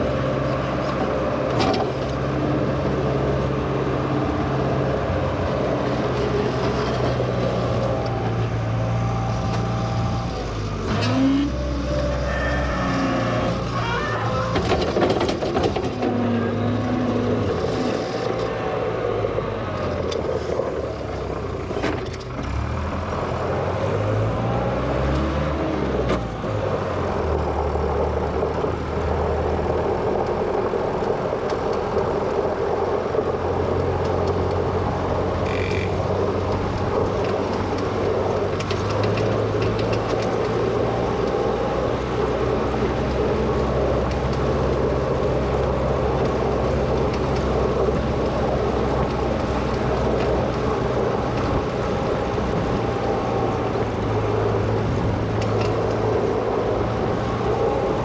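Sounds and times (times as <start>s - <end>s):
wheel loader engine running: 0.0s - 58.0s.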